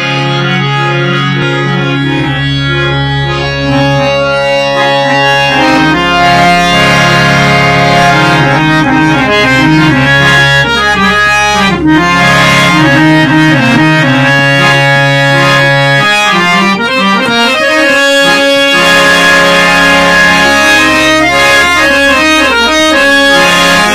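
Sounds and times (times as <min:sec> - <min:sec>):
harmonium playing: 0:00.0 - 0:23.9.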